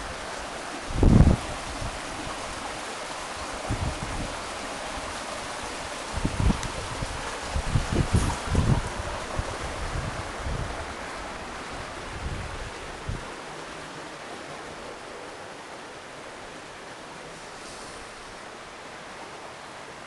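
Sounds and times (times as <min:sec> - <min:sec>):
creek rushing through rock gorge: 0:00.0 - 0:20.0.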